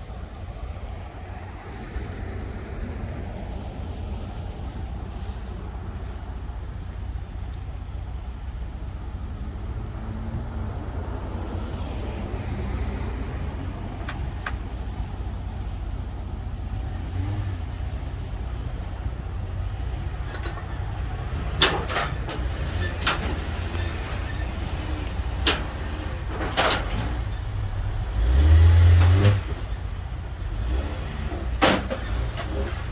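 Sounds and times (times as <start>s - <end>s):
vehicle engine rumbling: 0.0s - 32.9s.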